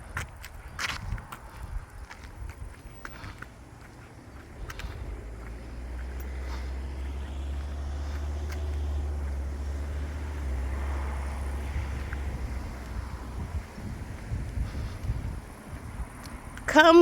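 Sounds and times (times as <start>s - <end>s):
road traffic: 0.0s - 17.0s
wind buffeting microphone: 0.0s - 17.0s
vehicle passing: 0.7s - 17.0s.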